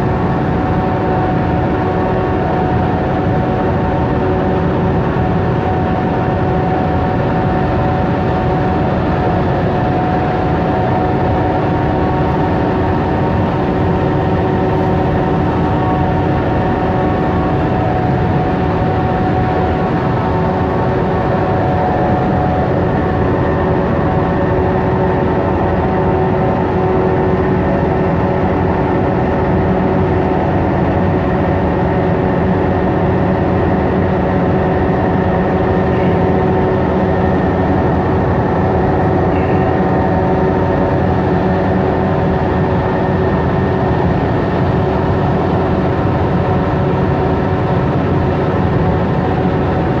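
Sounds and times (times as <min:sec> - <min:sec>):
boat engine droning: 0:00.0 - 0:50.0.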